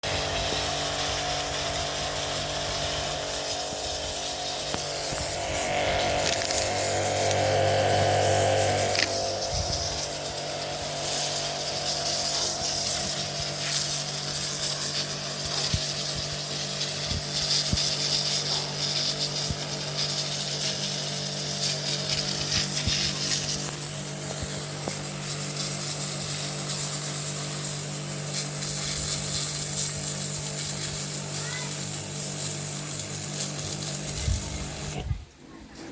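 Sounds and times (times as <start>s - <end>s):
pressure washer motor humming: 0.0s - 35.1s
water jet hissing against wall: 0.0s - 35.1s.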